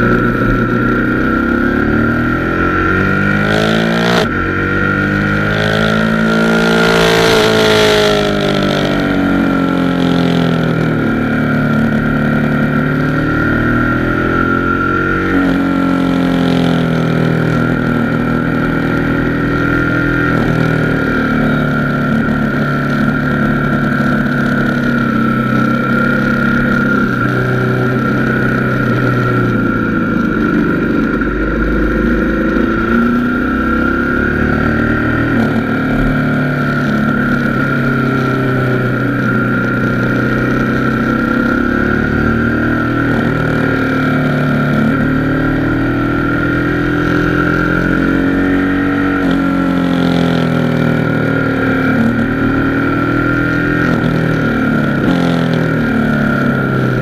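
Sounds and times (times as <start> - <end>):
motorcycle engine revving: 0.0 - 57.0
steady high whine: 0.0 - 57.0.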